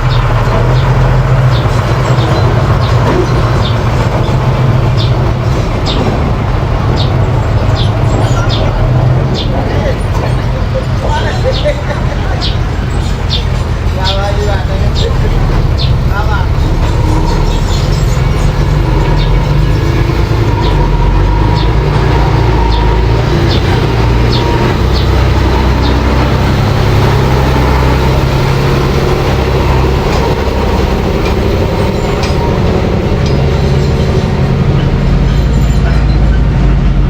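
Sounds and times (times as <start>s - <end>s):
bulldozer engine running: 0.0s - 37.0s.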